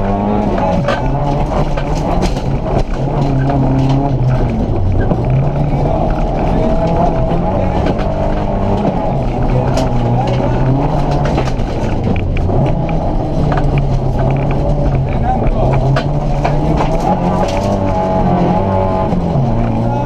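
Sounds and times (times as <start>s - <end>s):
car engine revving through gears: 0.0s - 20.0s.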